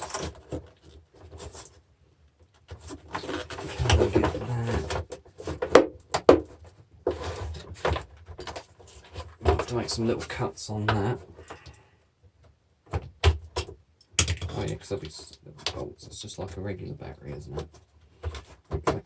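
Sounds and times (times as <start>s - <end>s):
plastic casing scraping and knocking: 0.0s - 1.8s, 2.4s - 11.8s, 12.4s - 16.0s, 17.1s - 19.0s.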